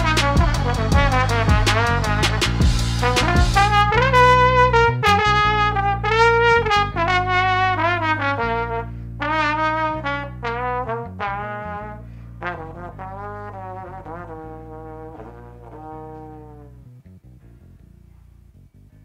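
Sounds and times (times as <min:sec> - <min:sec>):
trombone solo: 0:00.0 - 0:17.2
low backing tone: 0:01.1 - 0:19.0.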